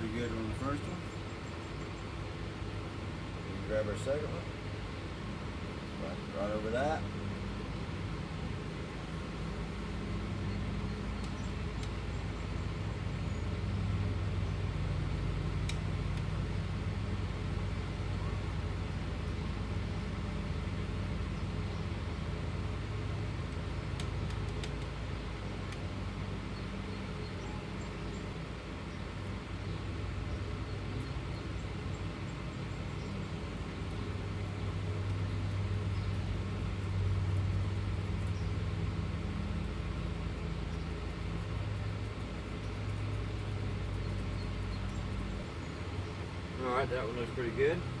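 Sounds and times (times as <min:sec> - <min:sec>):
low mechanical hum: 0:00.0 - 0:48.0.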